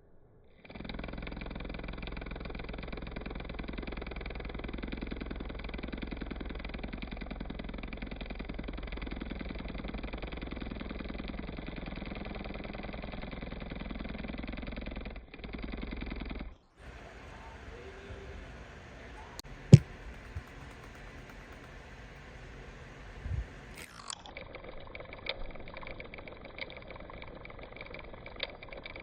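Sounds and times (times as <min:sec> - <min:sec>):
motor running steadily: 0:00.7 - 0:29.0.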